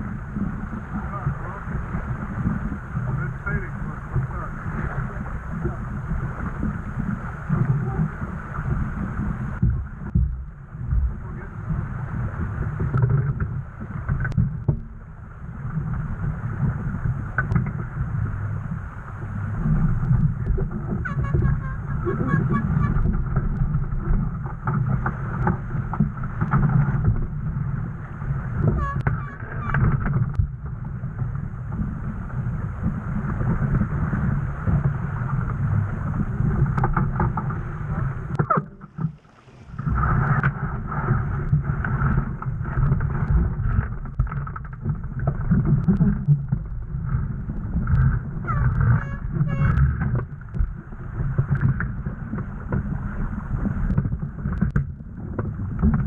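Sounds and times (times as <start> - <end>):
water rushing along boat hull: 0.0 - 56.0
wind buffeting microphone: 0.0 - 56.0.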